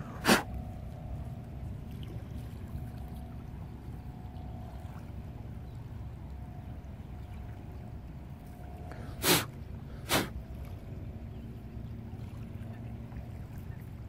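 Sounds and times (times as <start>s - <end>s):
faint steady tone: 0.0s - 14.0s
low outdoor rumble: 0.0s - 14.0s.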